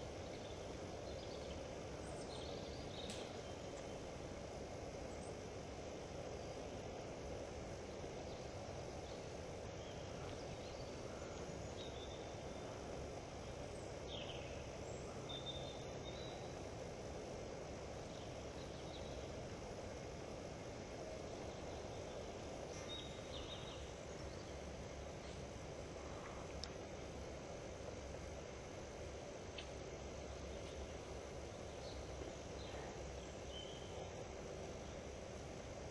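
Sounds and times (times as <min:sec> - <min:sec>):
woodland background noise: 0:00.0 - 0:35.9.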